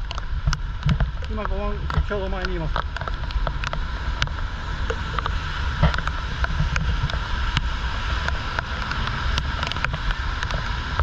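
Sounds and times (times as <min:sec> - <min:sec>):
heavy rain falling: 0:00.0 - 0:11.0
low wind rumble: 0:00.0 - 0:11.0
raindrops ticking near microphone: 0:00.0 - 0:11.0.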